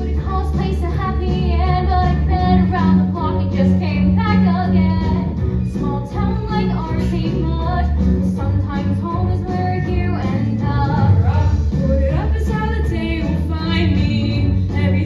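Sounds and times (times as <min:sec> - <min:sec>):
instrumental accompaniment with bass: 0:00.0 - 0:15.0.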